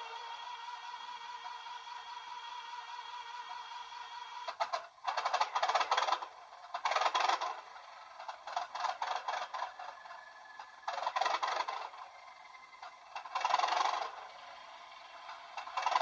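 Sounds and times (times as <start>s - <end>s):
model locomotive diesel start-up sound: 0.0s - 16.0s.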